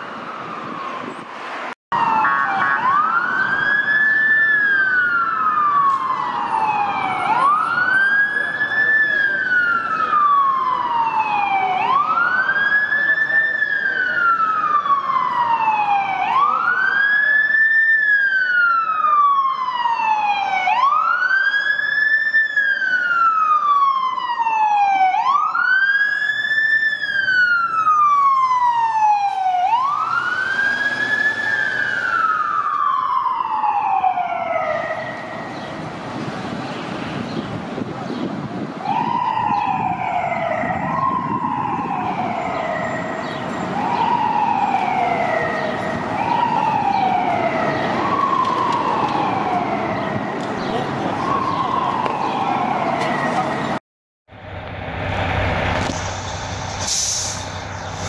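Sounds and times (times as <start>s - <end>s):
fire truck siren wailing: 0.0s - 1.3s, 1.9s - 36.4s, 38.5s - 53.8s
street traffic rumble: 0.0s - 58.0s.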